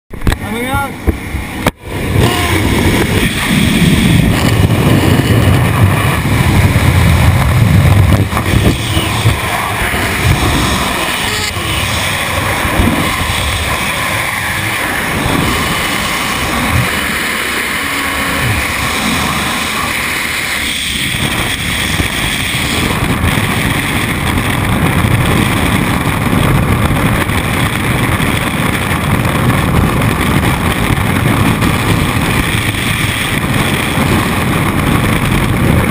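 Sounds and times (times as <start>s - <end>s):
wind rushing on helmet camera: 0.1s - 35.9s.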